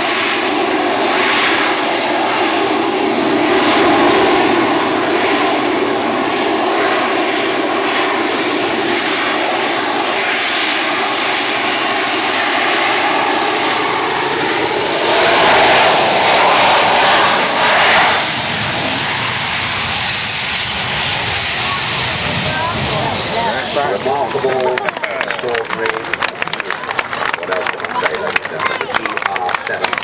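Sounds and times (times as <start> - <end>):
aircraft engine running: 0.0 - 30.0.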